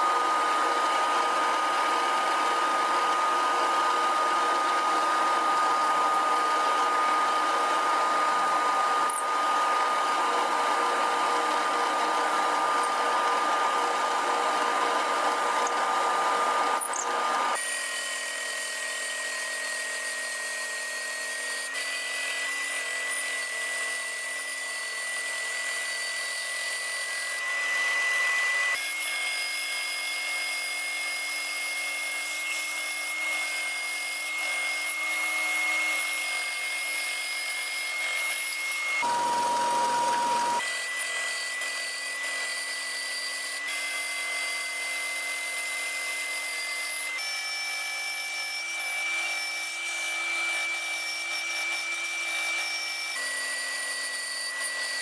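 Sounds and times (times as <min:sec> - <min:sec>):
bandsaw cutting wood: 0:00.0 - 0:55.0.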